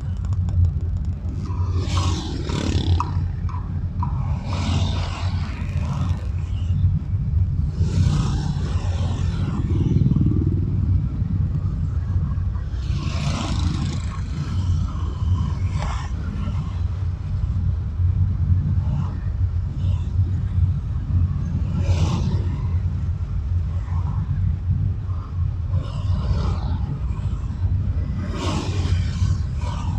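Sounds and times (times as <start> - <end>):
car road and engine rumble: 0.0 - 29.9
vehicles passing: 0.0 - 29.9.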